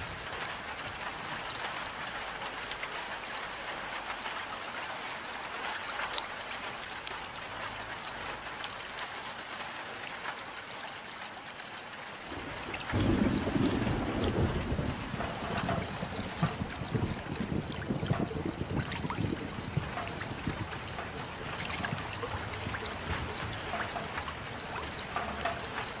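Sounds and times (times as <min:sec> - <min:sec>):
rain falling: 0:00.0 - 0:26.0
water drips: 0:00.2 - 0:26.0.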